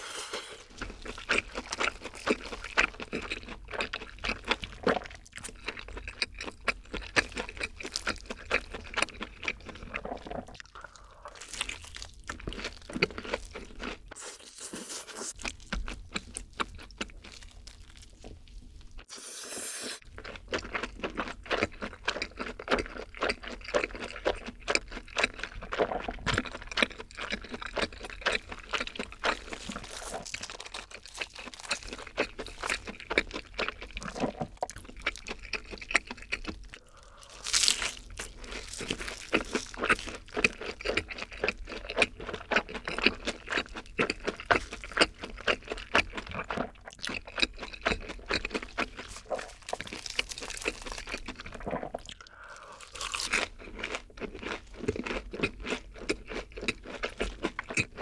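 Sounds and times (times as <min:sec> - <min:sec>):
chewing: 0:00.2 - 0:19.1, 0:20.0 - 0:58.0
crunching fried crust: 0:00.6 - 0:10.6, 0:11.3 - 0:19.1, 0:20.0 - 0:52.1, 0:52.8 - 0:58.0.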